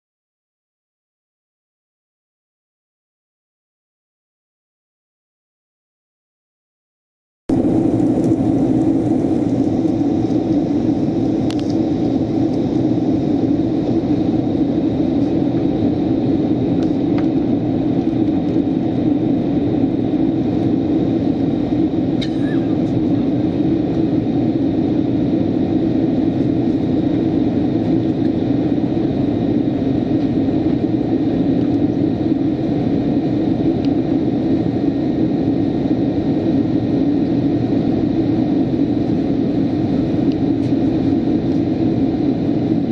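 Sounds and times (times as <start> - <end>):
airliner cabin engine rumble: 7.5 - 42.9.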